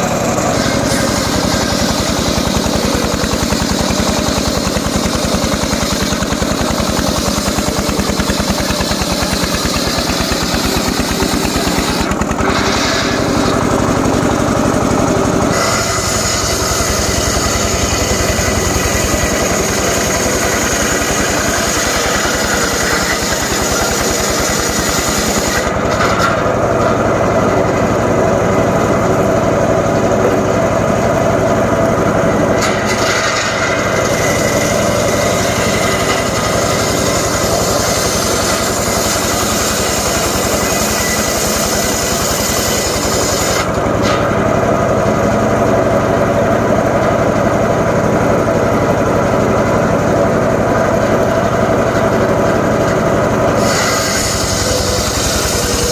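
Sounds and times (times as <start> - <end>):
circular saw cutting logs: 0.0 - 55.9.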